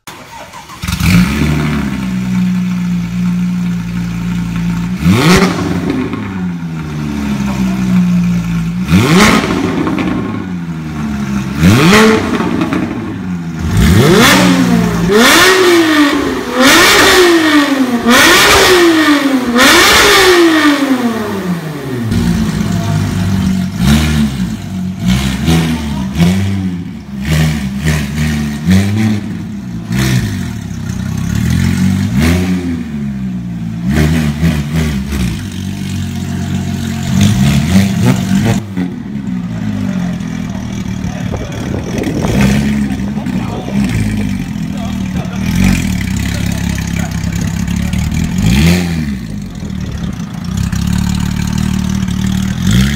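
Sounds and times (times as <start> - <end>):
car engine idling with blips: 0.0 - 32.2, 32.8 - 52.9
car engine revving: 0.3 - 52.9.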